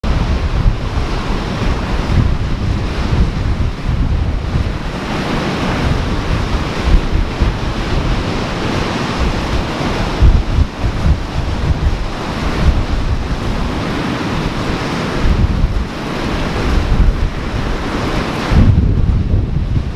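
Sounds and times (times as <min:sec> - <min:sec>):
ocean surf washing: 0:00.0 - 0:19.9
wind buffeting microphone: 0:00.0 - 0:19.9.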